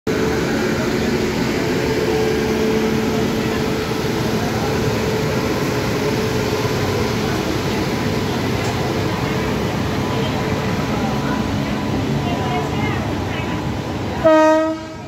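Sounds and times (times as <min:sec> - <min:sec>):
locomotive mechanical hum: 0:00.1 - 0:15.0
train wheels on rails: 0:00.1 - 0:15.0.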